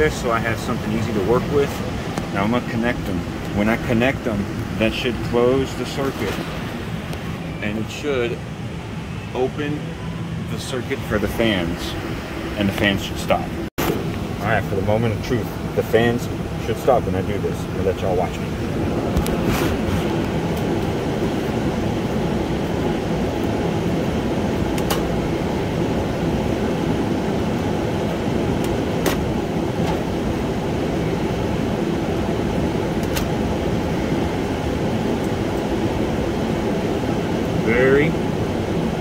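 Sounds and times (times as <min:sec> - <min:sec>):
fans whirring: 0:00.0 - 0:39.0.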